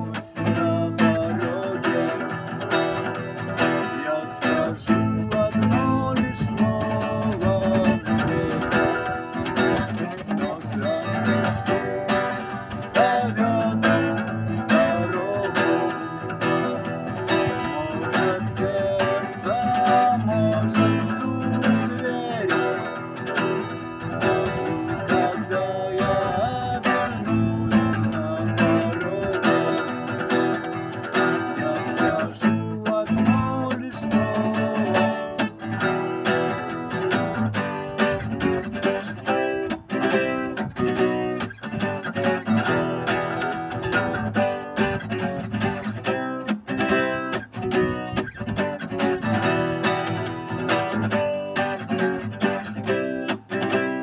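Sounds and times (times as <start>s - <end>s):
acoustic guitar strumming chords: 0.0s - 54.0s.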